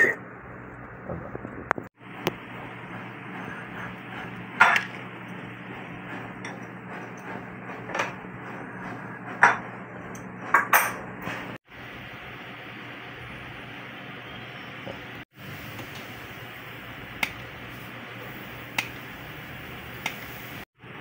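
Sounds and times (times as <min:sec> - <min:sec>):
steady low hum: 0:00.1 - 0:21.0.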